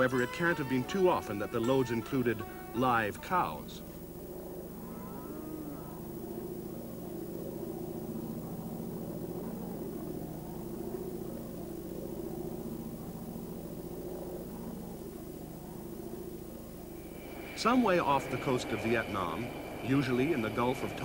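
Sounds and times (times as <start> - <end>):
low hum: 0.0 - 21.0
steady engine drone: 0.0 - 21.0.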